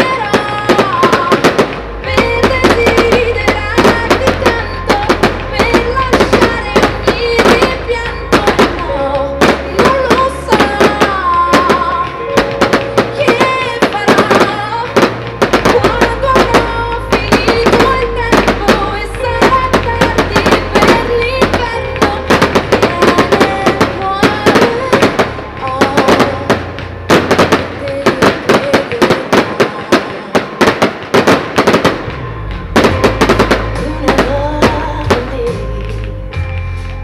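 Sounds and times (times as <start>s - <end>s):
fireworks bangs and crackles: 0.0s - 36.5s
music playing: 0.0s - 37.0s.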